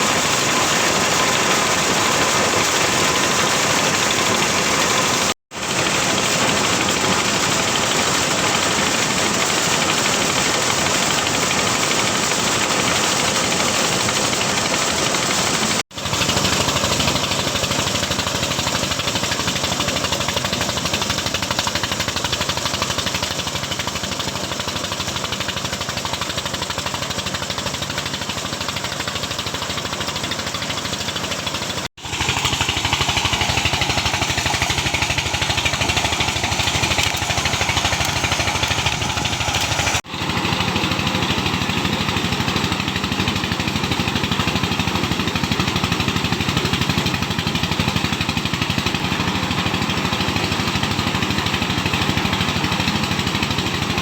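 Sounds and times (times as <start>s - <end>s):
corn sheller machine running: 0.0s - 54.0s.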